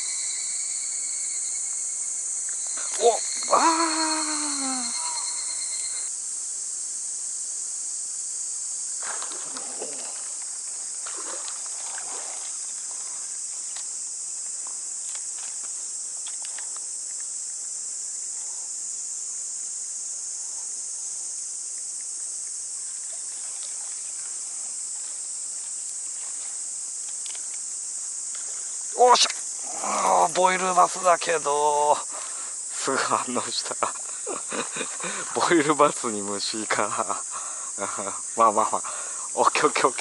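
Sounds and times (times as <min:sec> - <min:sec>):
insects shrilling: 0:00.0 - 0:06.1, 0:08.8 - 0:40.0.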